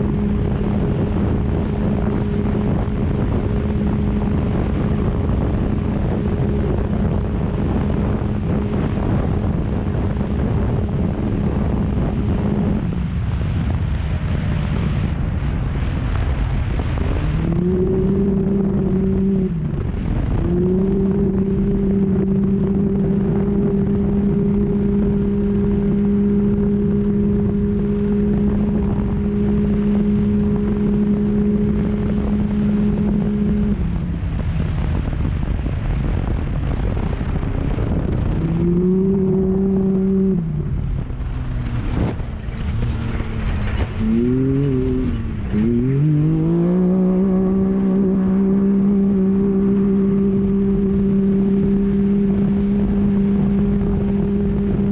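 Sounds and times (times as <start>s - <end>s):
constant noisy rush: 0.0s - 54.9s
race vehicle engine at full throttle: 0.0s - 54.9s.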